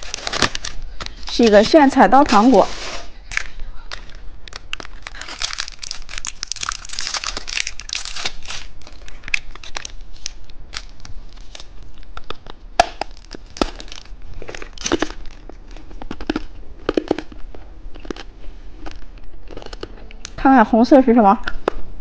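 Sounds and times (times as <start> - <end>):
candy wrapper crinkling and tearing: 0.0 - 2.0, 3.2 - 20.4.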